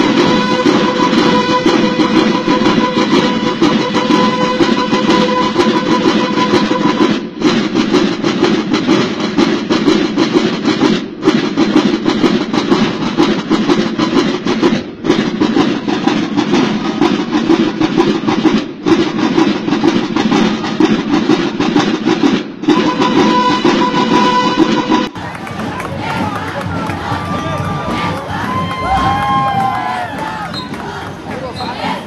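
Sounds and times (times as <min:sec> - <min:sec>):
marching drums: 0:00.0 - 0:32.0.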